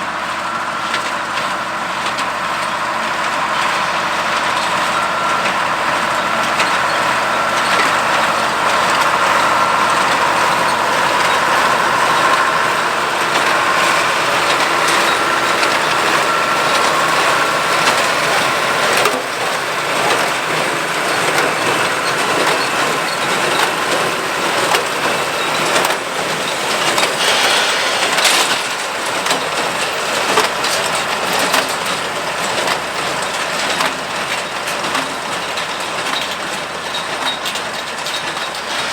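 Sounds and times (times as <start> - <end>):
tractor engine working: 0.0 - 38.9.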